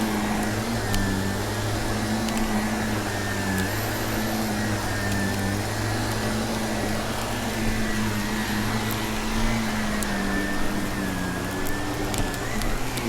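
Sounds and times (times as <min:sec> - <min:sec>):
debris clicking in vacuum: 0:00.0 - 0:13.0
vacuum cleaner running: 0:00.0 - 0:13.0.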